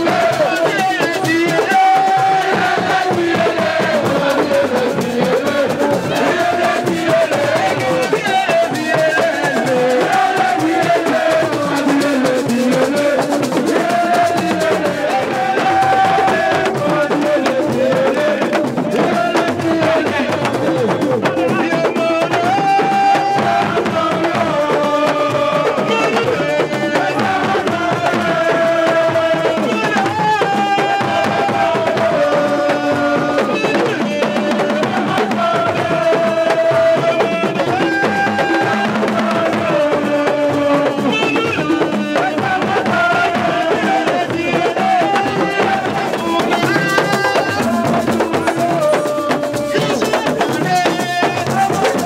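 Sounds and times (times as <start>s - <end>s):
hand drums fast rhythm: 0.0s - 52.0s
voices singing: 0.0s - 52.0s.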